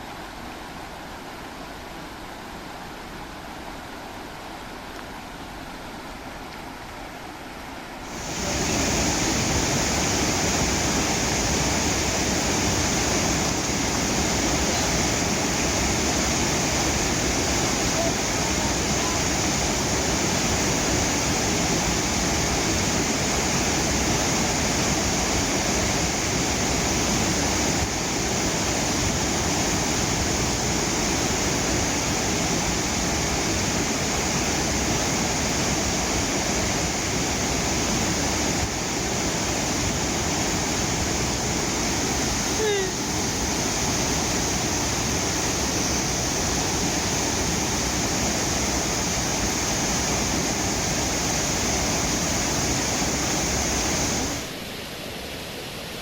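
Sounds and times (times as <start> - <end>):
river water rushing over cascade: 0.0 - 56.0.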